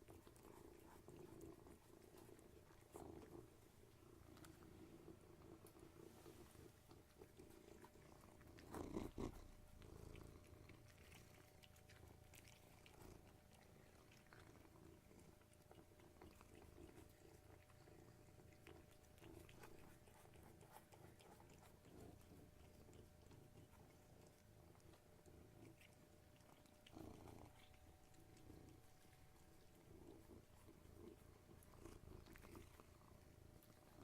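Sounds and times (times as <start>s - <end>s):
cats purring: 0.0s - 34.0s.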